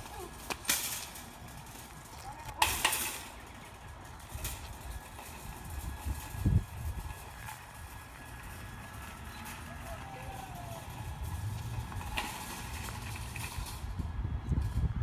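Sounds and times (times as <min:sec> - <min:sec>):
shopping cart clattering: 0:00.0 - 0:14.0
shopping cart wheels rumbling: 0:00.0 - 0:15.0.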